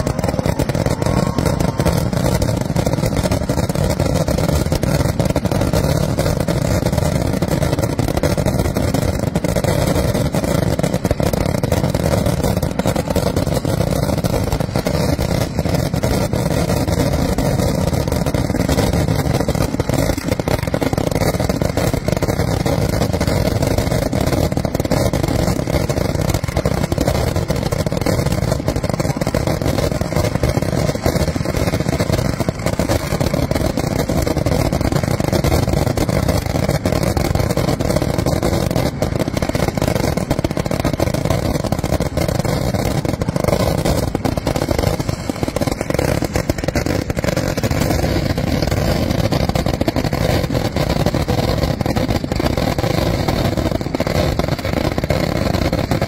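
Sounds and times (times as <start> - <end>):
firecracker explosions barrage: 0.0 - 56.0.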